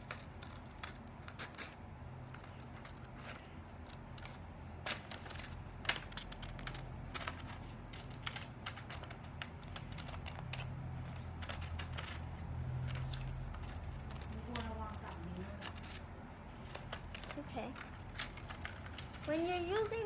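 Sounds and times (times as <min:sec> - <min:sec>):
paper rustling: 0:00.0 - 0:20.0
scissors snipping paper: 0:00.0 - 0:20.0.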